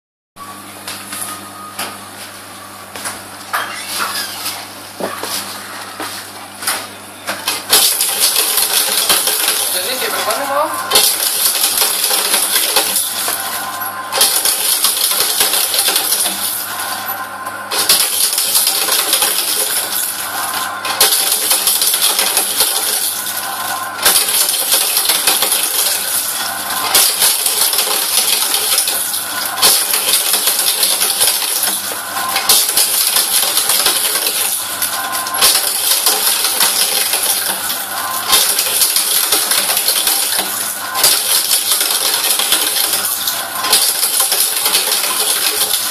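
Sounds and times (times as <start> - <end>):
paper shredder running: 3.0 - 45.9.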